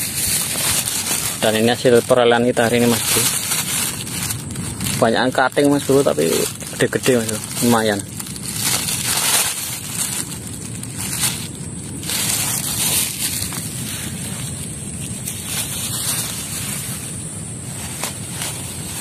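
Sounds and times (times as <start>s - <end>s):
microphone rustling noise: 0.0s - 19.0s
plastic bag crinkling: 0.0s - 19.0s.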